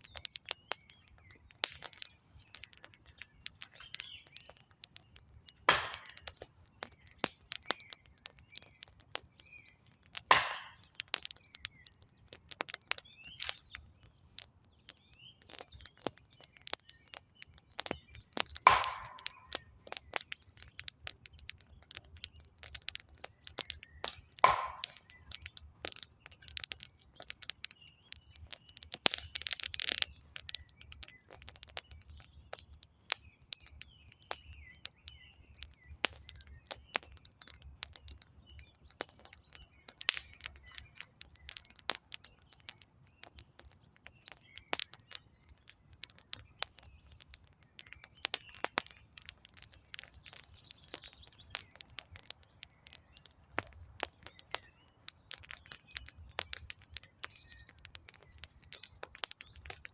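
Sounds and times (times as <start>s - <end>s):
birds chirping faintly: 0.0s - 59.9s
campfire crackling: 0.0s - 59.9s.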